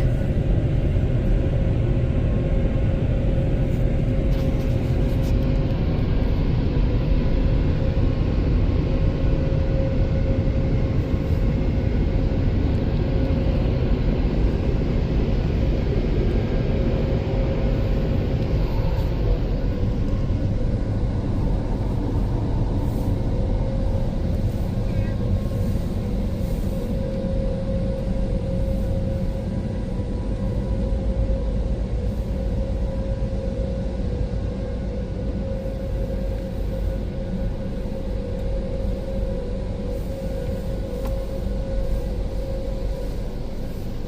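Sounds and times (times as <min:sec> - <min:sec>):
fan motors humming: 0:00.0 - 0:44.0.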